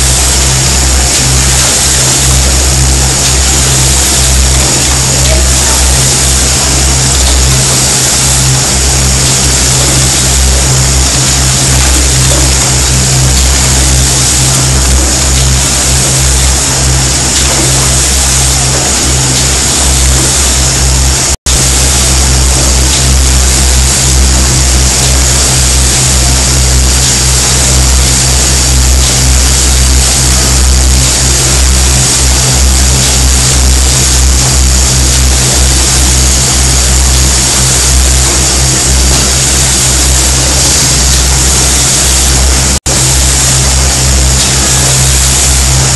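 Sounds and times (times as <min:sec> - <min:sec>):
assembly line machine hum: 0:00.0 - 0:45.9.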